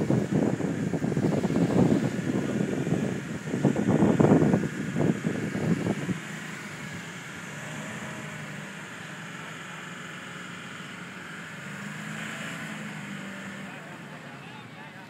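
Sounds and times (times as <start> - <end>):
wheels spinning in sand: 0.0 - 14.6
truck engine under load: 0.0 - 15.0.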